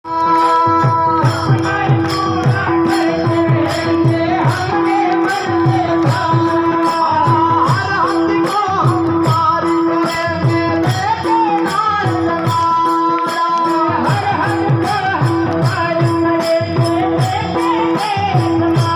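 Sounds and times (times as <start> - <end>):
devotional song music: 0.0 - 18.9
drum strokes: 0.1 - 18.9.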